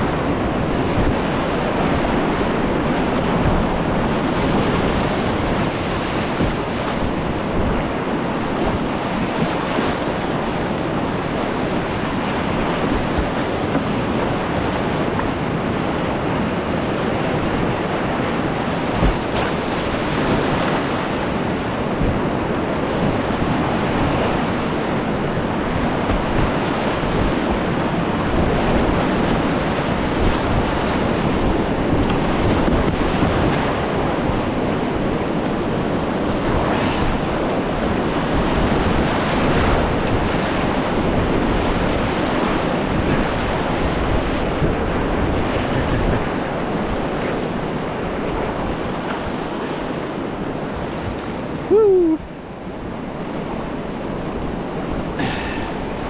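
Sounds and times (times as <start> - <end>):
whitewater rushing: 0.0 - 56.0
wind buffeting on microphone: 0.0 - 56.0.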